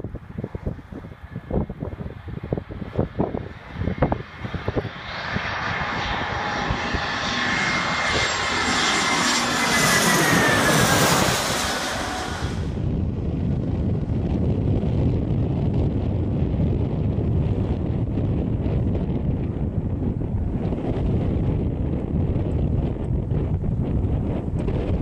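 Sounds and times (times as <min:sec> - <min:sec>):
jet engines whining overhead: 0:00.0 - 0:25.0
wind buffeting microphone: 0:00.0 - 0:25.0.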